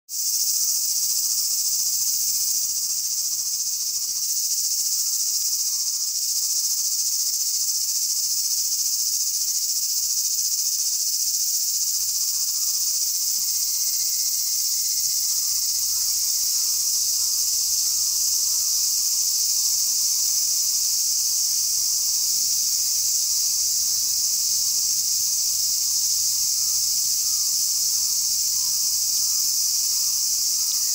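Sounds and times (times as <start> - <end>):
shrill insect chorus: 0.1 - 30.9.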